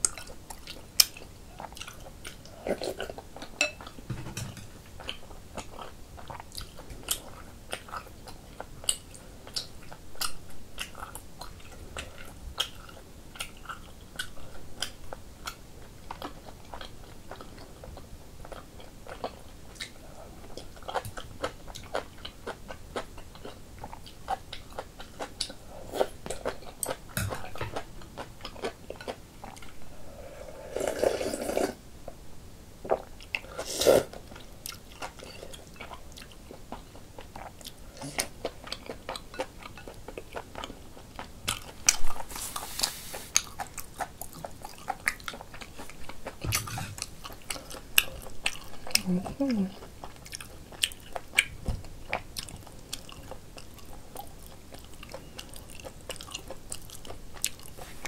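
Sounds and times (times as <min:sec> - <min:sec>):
chewing and crunching food: 0:00.0 - 0:04.0, 0:04.7 - 0:30.1, 0:32.8 - 0:58.0.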